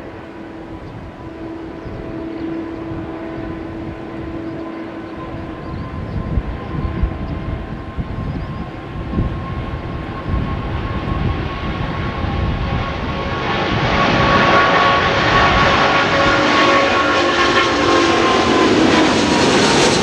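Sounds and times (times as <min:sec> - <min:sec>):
jet engines at takeoff power: 0:00.0 - 0:20.0
steady engine whine: 0:00.0 - 0:20.0
wind buffeting microphone: 0:00.0 - 0:20.0.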